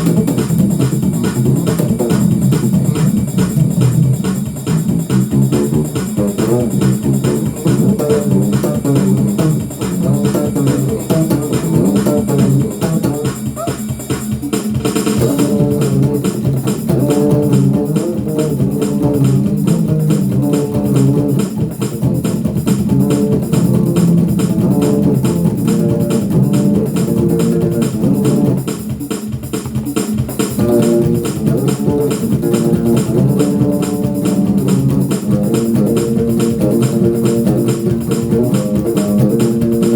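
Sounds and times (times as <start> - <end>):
bass guitar groove: 0.0 - 39.9
drums and tambourine beat: 0.0 - 39.9.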